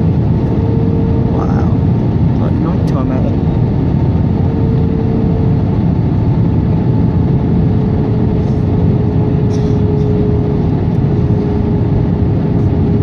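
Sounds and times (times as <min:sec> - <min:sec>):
jet engine rumble: 0:00.0 - 0:13.0
thin steady hum: 0:00.0 - 0:13.0.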